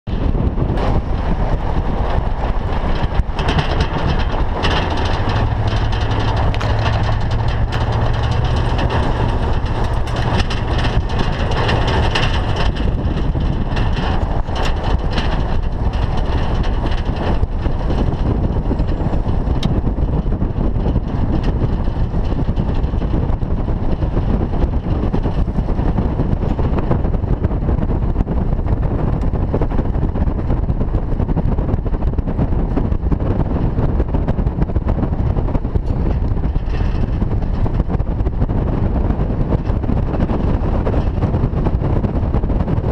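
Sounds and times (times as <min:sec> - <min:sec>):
wind noise: 0:00.0 - 0:42.9
tyres rumbling on gravel: 0:00.1 - 0:42.9.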